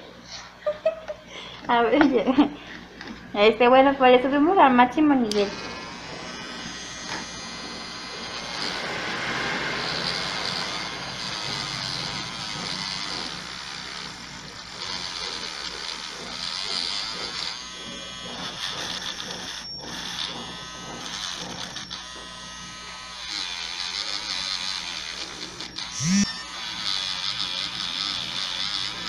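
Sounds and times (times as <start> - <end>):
steady low hum: 0.0 - 23.0, 25.9 - 26.5.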